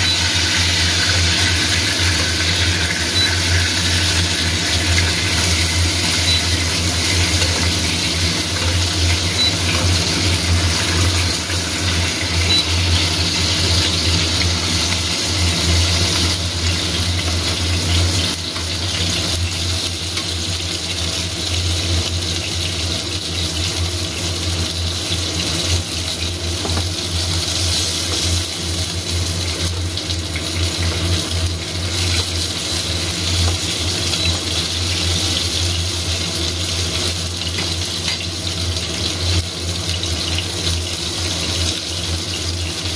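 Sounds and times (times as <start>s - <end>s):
steak sizzling in a frying pan: 0.0s - 42.9s.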